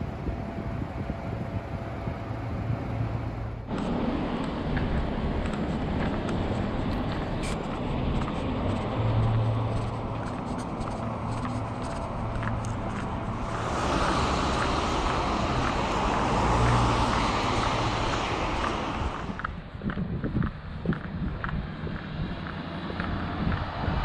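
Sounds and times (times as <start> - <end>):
low engine hum of traffic: 0.0 - 24.0
vehicles passing close by: 0.0 - 24.0.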